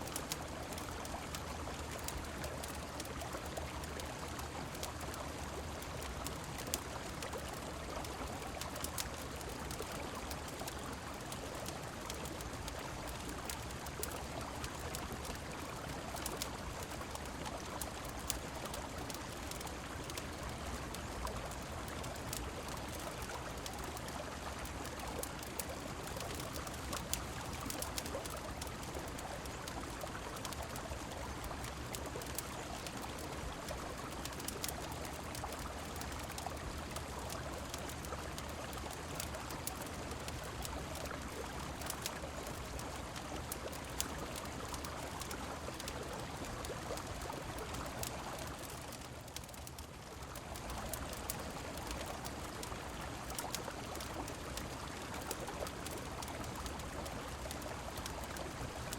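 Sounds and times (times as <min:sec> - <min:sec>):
rain falling: 0:00.0 - 0:58.9
river water flowing: 0:00.0 - 0:58.9
wood fire crackling: 0:00.0 - 0:58.9.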